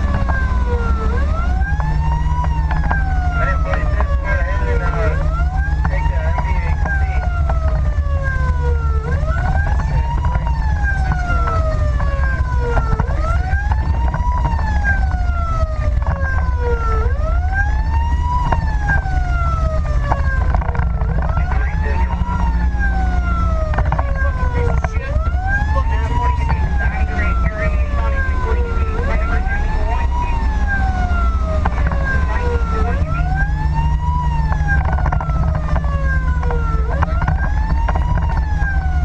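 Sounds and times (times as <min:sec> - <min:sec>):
fire engine siren wailing: 0:00.0 - 0:39.0
truck engine and road rumble: 0:00.0 - 0:39.0.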